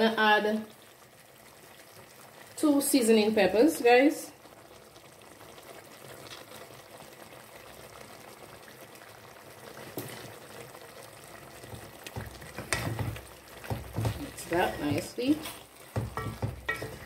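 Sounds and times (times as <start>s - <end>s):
pot simmering: 0.0s - 17.0s.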